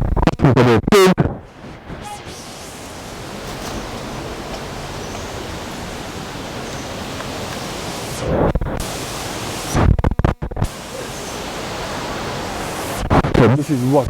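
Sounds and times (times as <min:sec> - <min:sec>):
waterfall roaring: 0:01.5 - 0:09.8, 0:10.6 - 0:14.0.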